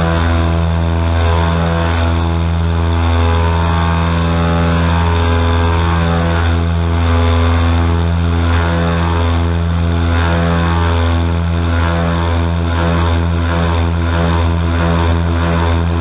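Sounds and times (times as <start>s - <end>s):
airboat engine drone: 0.0s - 16.0s.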